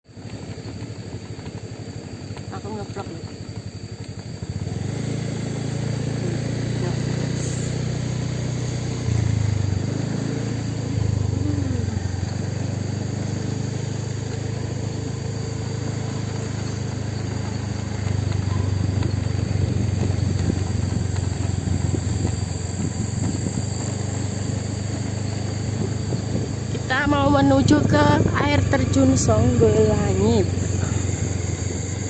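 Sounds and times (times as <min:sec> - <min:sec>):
road and wind noise: 0:00.0 - 0:32.0
vehicle engine running: 0:00.0 - 0:32.0.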